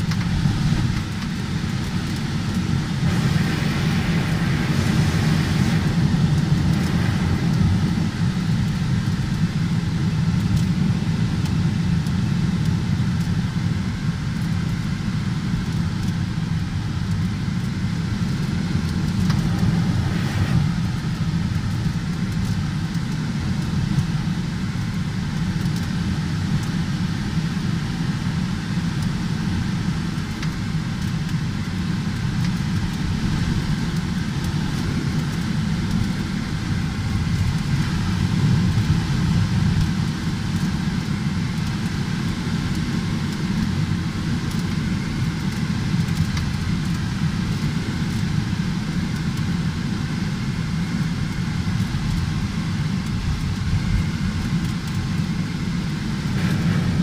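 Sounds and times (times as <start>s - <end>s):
air rushing around cockpit: 0.0s - 57.0s.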